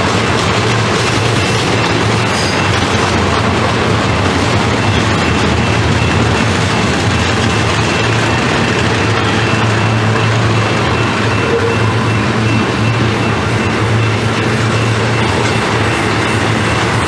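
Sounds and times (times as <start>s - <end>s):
steel train wheels rumbling on rail: 0.0s - 17.0s.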